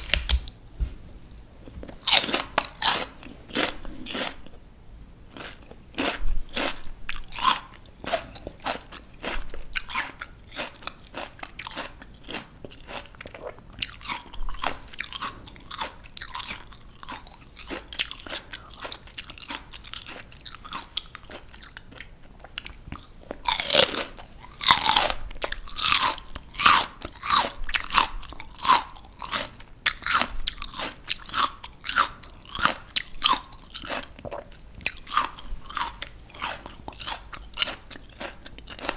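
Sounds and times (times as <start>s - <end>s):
crunchy vegetables being chewed: 0.0s - 1.0s, 1.8s - 4.7s, 5.3s - 38.9s.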